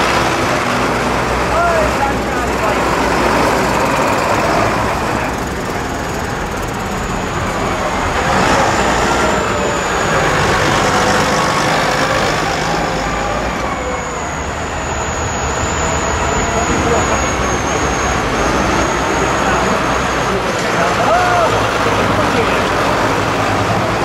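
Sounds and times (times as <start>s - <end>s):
tractor diesel engines passing: 0.0s - 24.0s.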